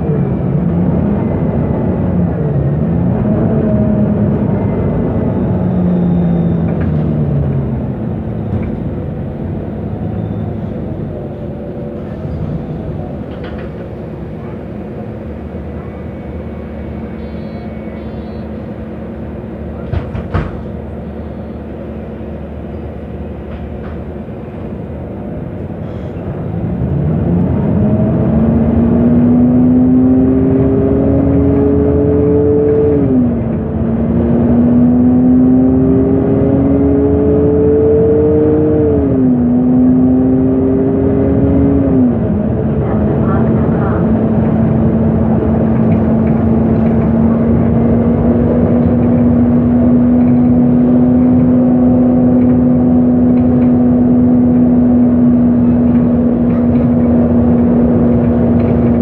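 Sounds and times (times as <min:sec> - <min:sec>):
bus engine: 0:00.0 - 0:59.0.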